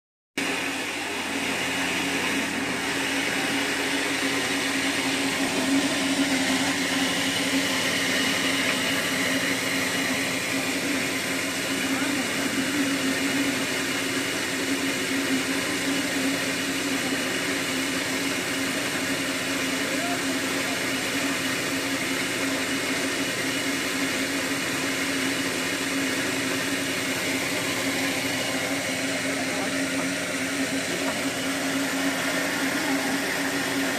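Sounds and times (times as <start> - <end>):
rice mill humming: 0.4 - 33.9.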